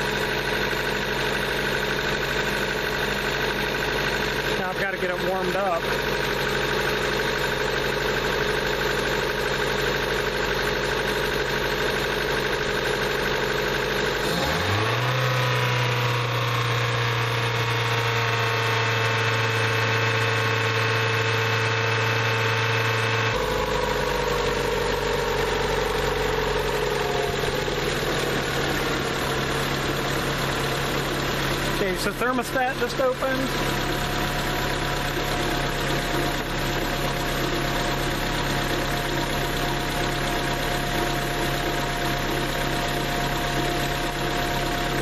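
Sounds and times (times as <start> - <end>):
car engine idling and revving: 0.0 - 45.0.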